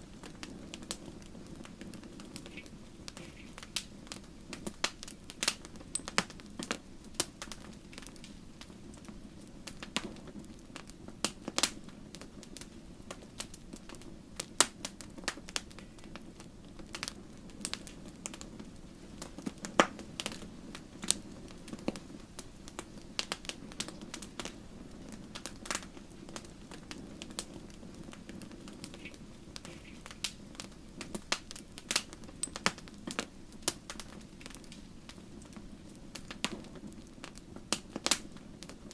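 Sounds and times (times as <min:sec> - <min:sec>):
fire crackling and popping: 0:00.0 - 0:38.9
low rush of flames: 0:00.0 - 0:38.9.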